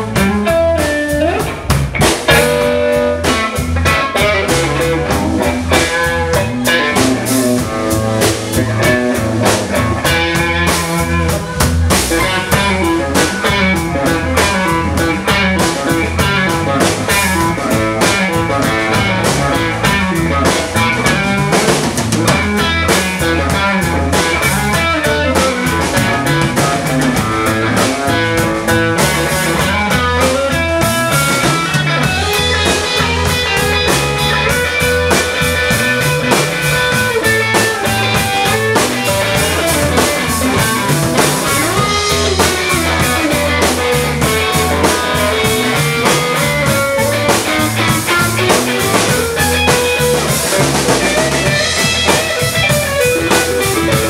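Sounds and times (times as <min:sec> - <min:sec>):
electric bass: 0:00.0 - 0:54.0
electric guitar bending notes: 0:00.0 - 0:54.0
steady drum beat: 0:00.0 - 0:54.0.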